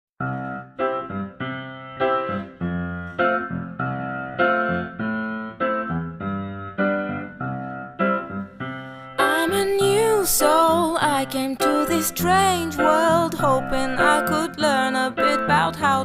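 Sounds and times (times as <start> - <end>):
keyboard chords: 0.2 - 16.0.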